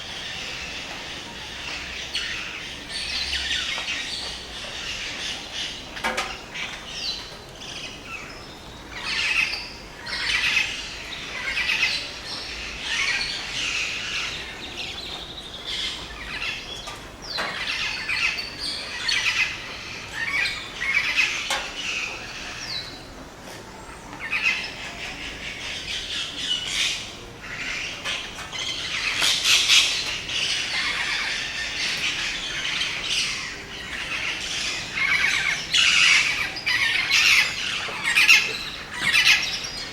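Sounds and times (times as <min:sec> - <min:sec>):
birds chirping whistling and squawking: 0:00.0 - 0:23.1, 0:23.8 - 0:39.9.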